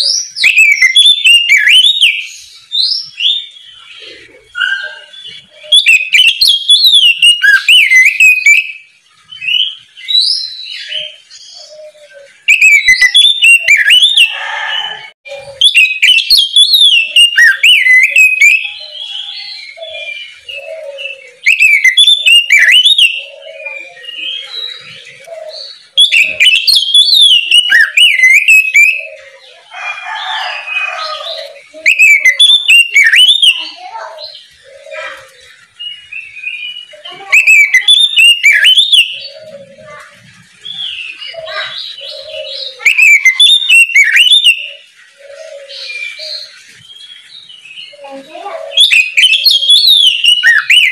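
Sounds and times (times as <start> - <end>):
bird singing whistles and warbles: 0.0 - 50.9.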